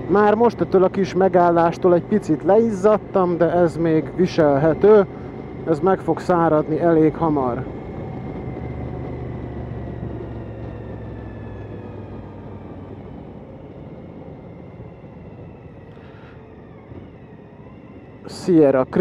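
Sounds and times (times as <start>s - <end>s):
motorcycle engine riding: 0.0s - 19.0s
wind and road noise: 0.0s - 19.0s.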